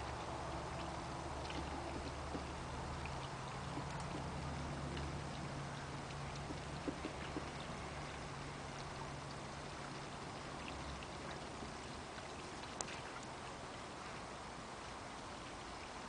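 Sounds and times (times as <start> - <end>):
soft splashes in shallow water: 0.0 - 16.0
steady outdoor hiss: 0.0 - 16.0.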